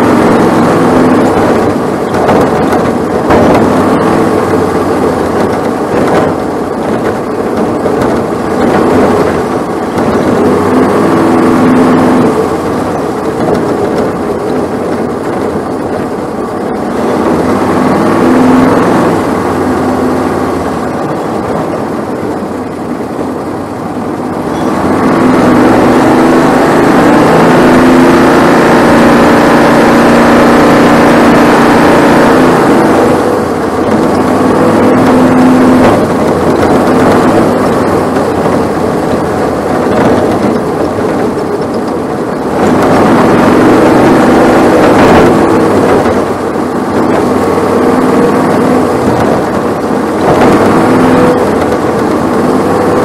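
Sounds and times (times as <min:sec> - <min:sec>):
race car engine under load: 0:00.0 - 0:53.0
road noise: 0:00.0 - 0:53.0
wind noise: 0:00.0 - 0:53.0.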